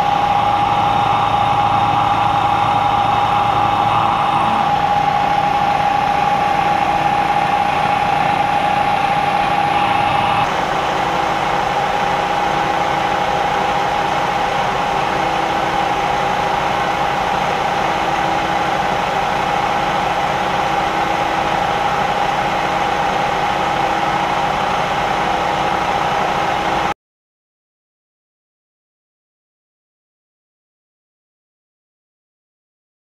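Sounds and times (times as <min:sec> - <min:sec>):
milling machine cutting metal: 0:00.0 - 0:26.8.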